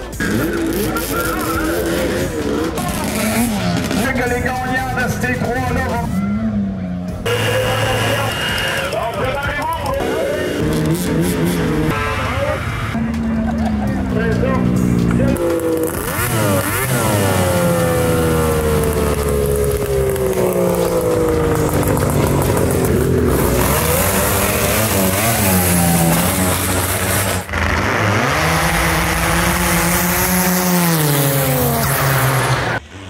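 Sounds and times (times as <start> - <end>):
racing snowmobile engines: 0.0 - 33.0.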